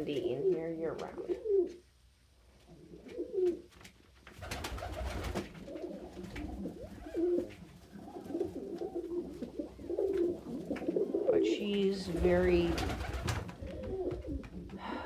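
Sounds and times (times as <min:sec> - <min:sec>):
pigeons cooing: 0:00.0 - 0:01.8, 0:02.7 - 0:03.7, 0:04.4 - 0:15.0
rustling: 0:02.5 - 0:14.7.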